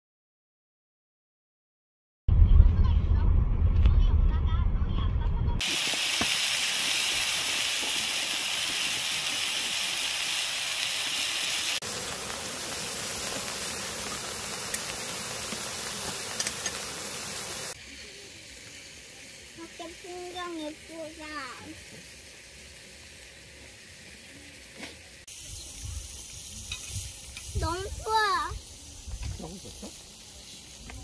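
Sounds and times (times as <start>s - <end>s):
meat and vegetables sizzling: 5.6s - 31.0s.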